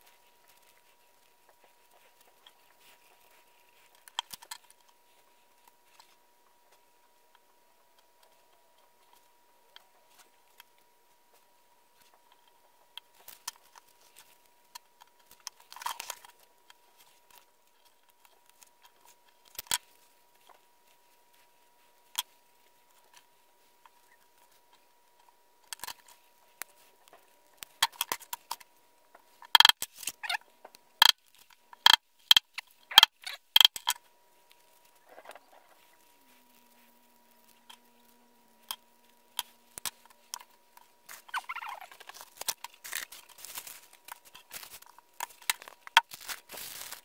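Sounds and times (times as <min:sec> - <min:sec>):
small clicks and handling noises: 0:00.0 - 0:47.0.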